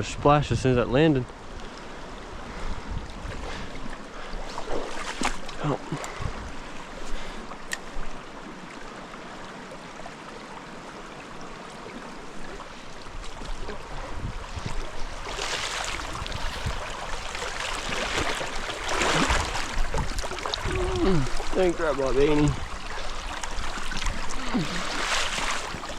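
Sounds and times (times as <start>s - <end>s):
stream water running: 0.0s - 25.9s.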